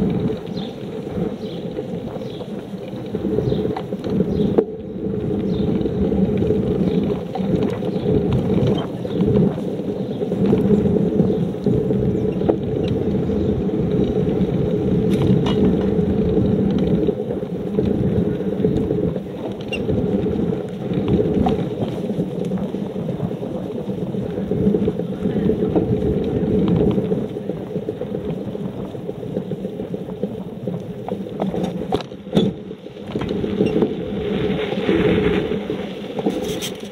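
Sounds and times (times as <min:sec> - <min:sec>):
wheels rumbling over road: 0:00.0 - 0:36.9.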